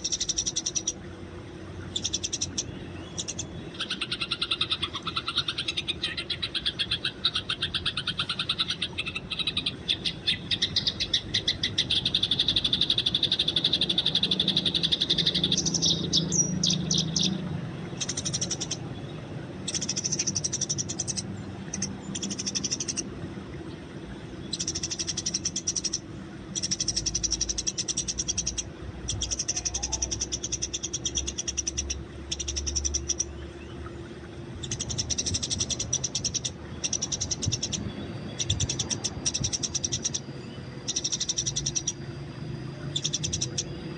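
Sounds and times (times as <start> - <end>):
sparrows chattering chirps: 0.0 - 1.0, 1.8 - 23.1, 24.4 - 34.0, 34.6 - 42.1, 42.8 - 43.8.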